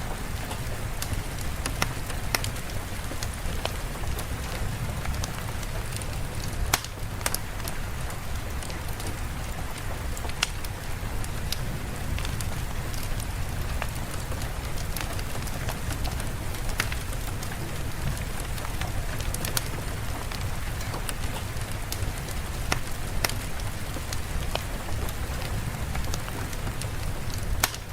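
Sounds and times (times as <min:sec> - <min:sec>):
rain drop ticks: 0:00.0 - 0:27.9
steady rain: 0:00.0 - 0:27.9.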